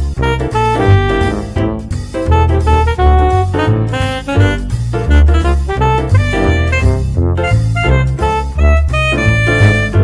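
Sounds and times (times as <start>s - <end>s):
jazzy swing music with horns: 0.0s - 10.0s.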